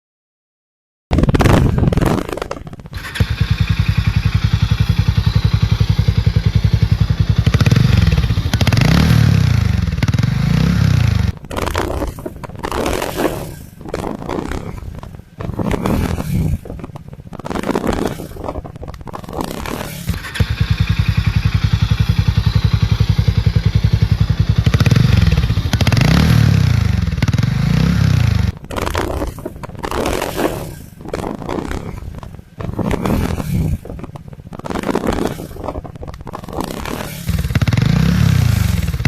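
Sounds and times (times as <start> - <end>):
motorcycle engine idling and revving: 1.7 - 39.0.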